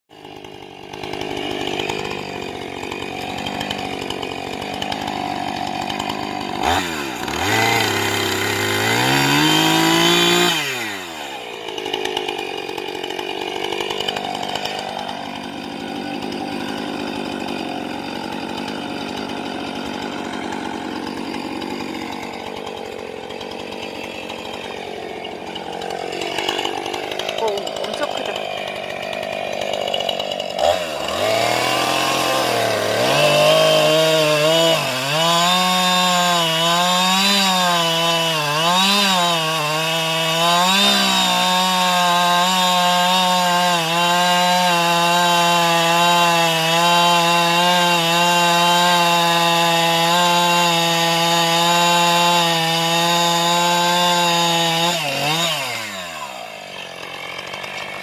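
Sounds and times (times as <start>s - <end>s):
chainsaw engine revving: 0.1s - 58.0s.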